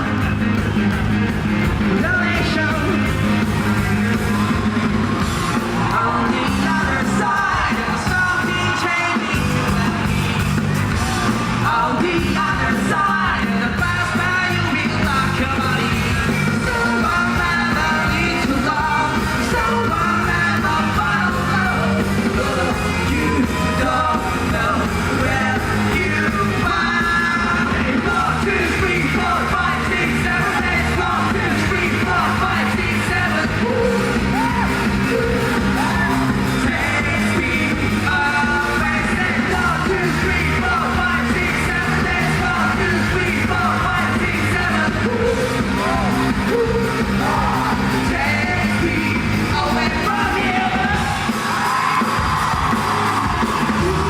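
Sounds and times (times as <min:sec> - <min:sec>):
live rock band: 0:00.0 - 0:54.0
man singing: 0:01.7 - 0:04.6, 0:05.4 - 0:54.0.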